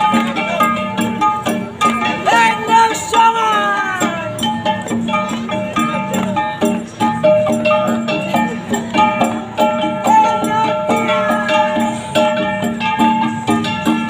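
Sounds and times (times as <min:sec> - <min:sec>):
bronze gongs beaten in rhythm: 0:00.0 - 0:14.0.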